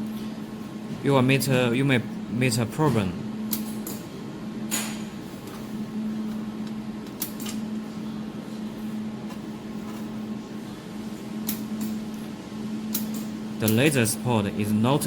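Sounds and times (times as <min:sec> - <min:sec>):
chiller and cooling fan humming: 0:00.0 - 0:15.0.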